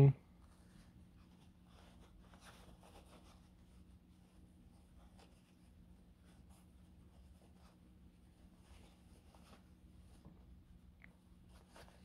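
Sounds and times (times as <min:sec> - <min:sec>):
low steady hum: 0:00.0 - 0:12.0
fingers rustling fabric: 0:00.4 - 0:12.0.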